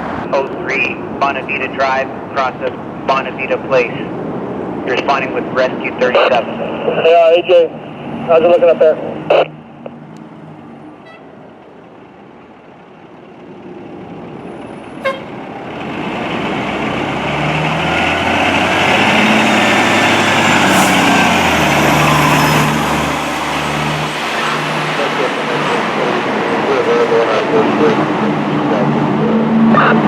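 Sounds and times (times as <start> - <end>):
fire truck engine: 0.0 - 30.0.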